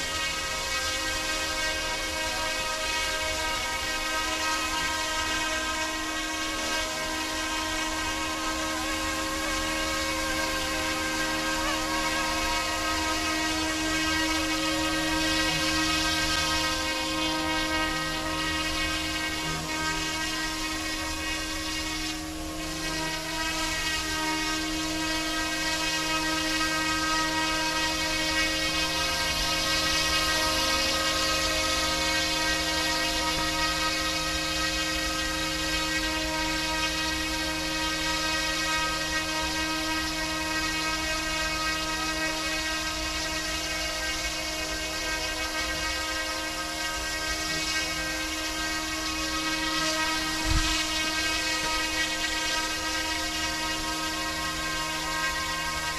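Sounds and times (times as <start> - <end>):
toy helicopter motor whine: 0.0 - 55.9.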